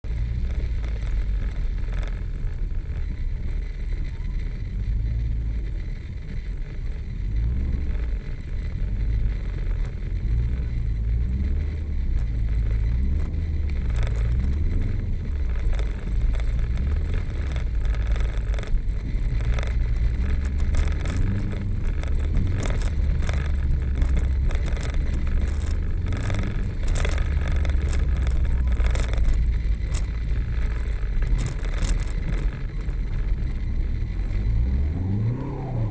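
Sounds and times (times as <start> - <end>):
car engine revving: 0.0 - 35.9
exhaust crackles: 0.0 - 35.9.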